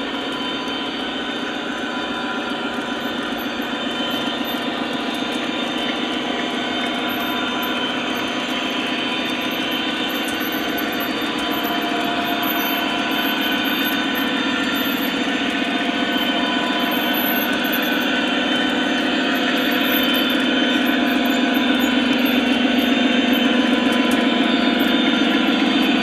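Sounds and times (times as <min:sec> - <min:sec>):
model freight cars rolling on track: 0:00.0 - 0:26.0.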